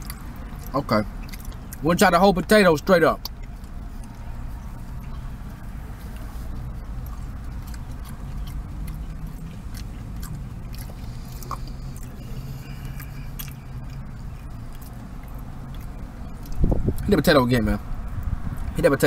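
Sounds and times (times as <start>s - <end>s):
person chewing food: 0.0s - 1.8s, 3.2s - 17.0s
mouth clicks and smacks: 0.0s - 1.9s, 3.2s - 17.1s
steady low hum: 0.0s - 18.8s.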